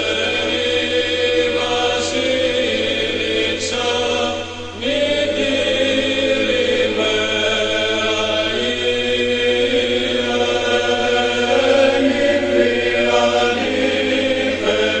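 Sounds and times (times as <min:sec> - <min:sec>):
choir chanting a hymn: 0:00.0 - 0:15.0.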